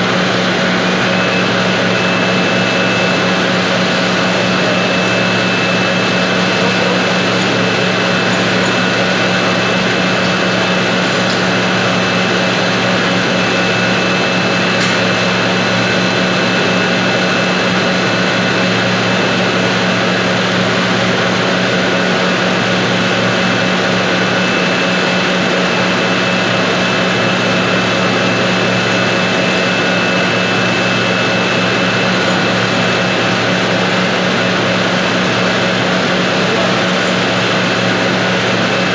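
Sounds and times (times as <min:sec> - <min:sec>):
factory machinery droning: 0:00.0 - 0:38.9
high whine: 0:00.0 - 0:38.9.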